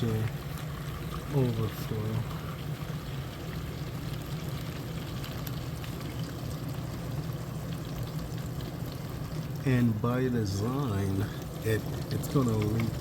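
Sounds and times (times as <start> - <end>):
low pump hum: 0.0 - 13.0.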